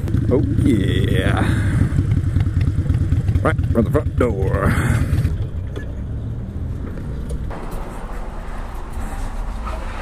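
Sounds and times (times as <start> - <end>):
motorcycle engine rumble: 0.0 - 10.0.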